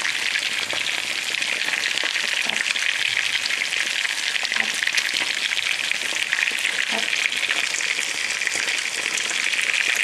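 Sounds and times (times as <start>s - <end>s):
water boiling in a pot: 0.0s - 10.0s.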